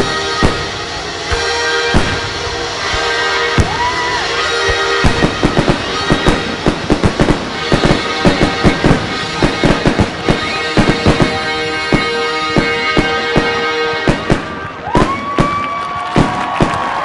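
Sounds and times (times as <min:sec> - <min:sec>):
fireworks bursting: 0:00.0 - 0:17.0
music soundtrack: 0:00.0 - 0:17.0.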